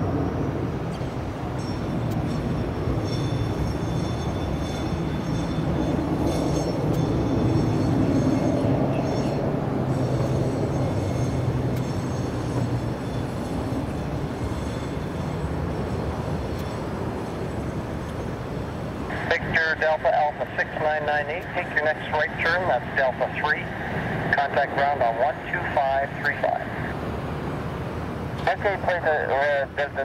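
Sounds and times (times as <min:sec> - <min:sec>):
jet engines rumbling with whine: 0:00.0 - 0:30.0.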